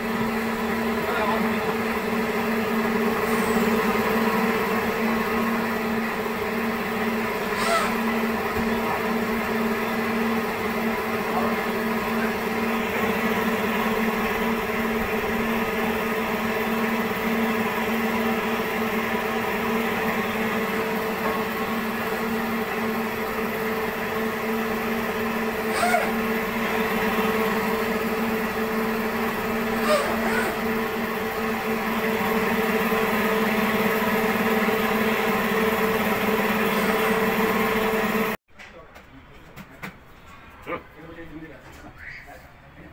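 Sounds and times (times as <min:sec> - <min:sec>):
machine hum: 0:00.0 - 0:38.4.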